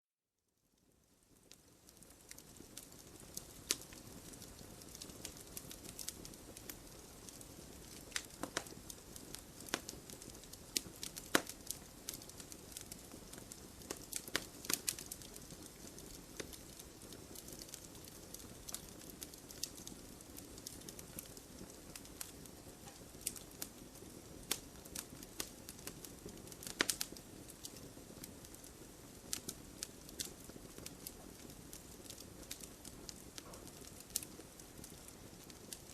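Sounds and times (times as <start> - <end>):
low hiss of fire: 0.6 - 35.9
wood fire crackling: 0.6 - 35.9
burning logs popping: 1.3 - 35.9.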